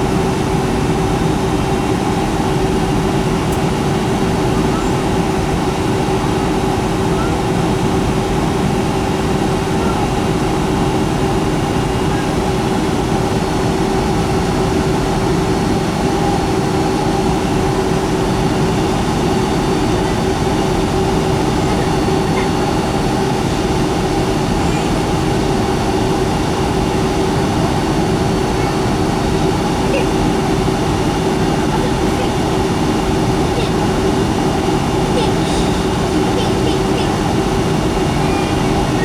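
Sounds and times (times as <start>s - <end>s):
airplane cabin noise: 0.0s - 39.0s.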